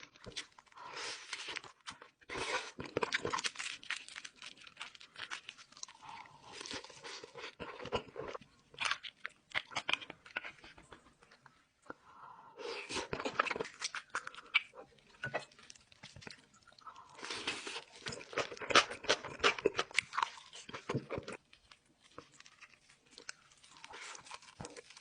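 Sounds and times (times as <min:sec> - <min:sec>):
crunchy food being chewed: 0:00.0 - 0:12.0, 0:12.6 - 0:25.0.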